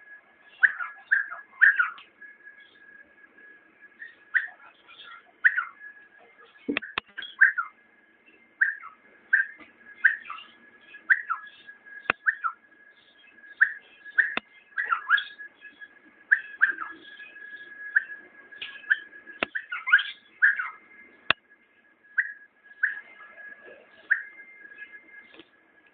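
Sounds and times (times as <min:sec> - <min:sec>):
faint steady tone: 0:00.0 - 0:25.9
bird whistled notes: 0:00.4 - 0:03.0, 0:03.9 - 0:21.4, 0:22.1 - 0:25.4.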